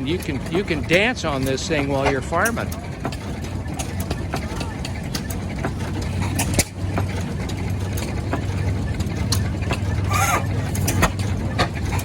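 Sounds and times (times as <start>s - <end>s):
engine knocks: 0.0s - 12.0s
traction engine humming: 0.0s - 12.0s.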